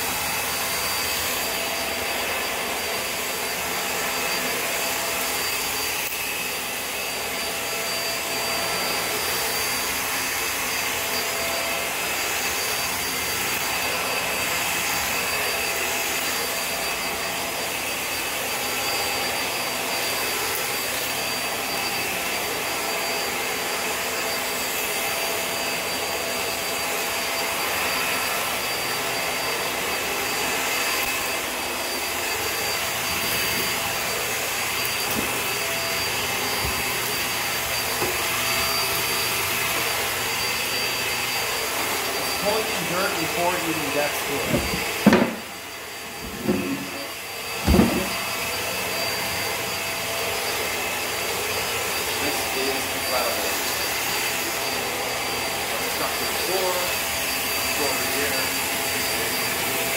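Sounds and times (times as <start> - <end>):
cordless vacuum running: 0.0 - 59.9.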